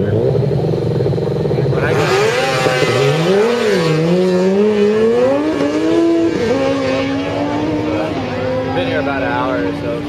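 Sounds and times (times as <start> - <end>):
drag racing engine accelerating: 0.0 - 10.0.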